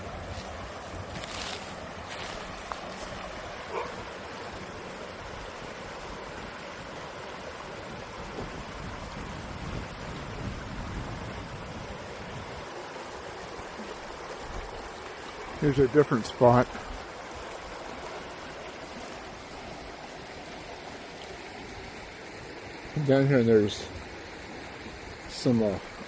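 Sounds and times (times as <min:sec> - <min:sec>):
creek water flowing: 0:00.0 - 0:26.0.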